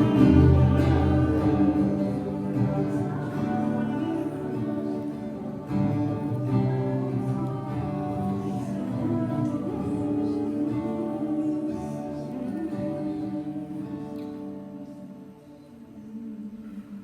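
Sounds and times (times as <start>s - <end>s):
acoustic guitar strumming: 0.0s - 15.6s
people singing: 0.0s - 17.0s.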